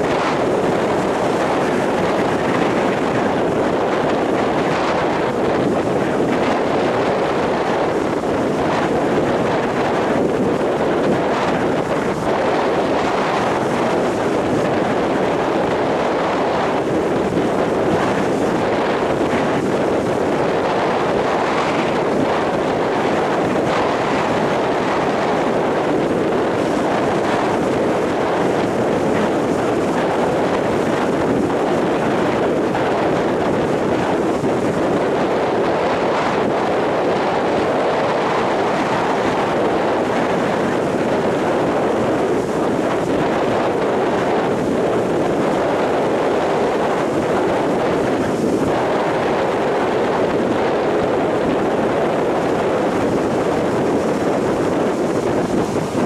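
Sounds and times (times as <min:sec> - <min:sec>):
strong wind: 0:00.0 - 0:56.0
waves breaking on beach: 0:00.0 - 0:56.0.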